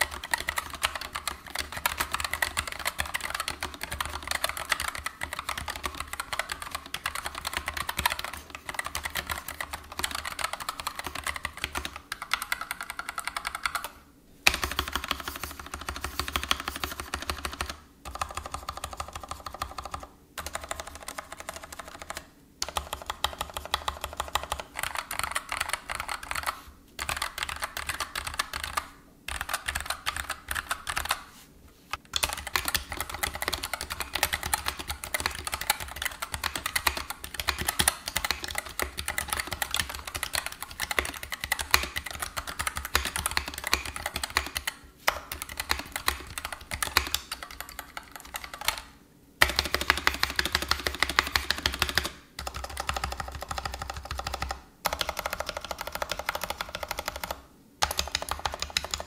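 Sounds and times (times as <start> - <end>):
mechanical keyboard typing: 0.0 - 31.2, 32.0 - 59.0.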